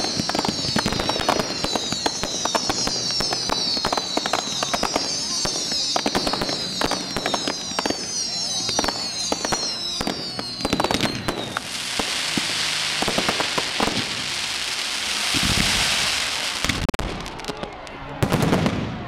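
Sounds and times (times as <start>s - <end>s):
firework fountain hissing: 0.0s - 18.8s
whistling fireworks: 0.0s - 19.0s.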